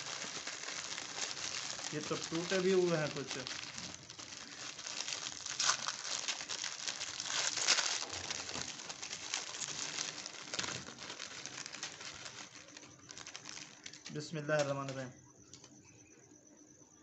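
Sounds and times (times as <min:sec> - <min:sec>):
plastic wrappers crumpling: 0:00.0 - 0:15.1.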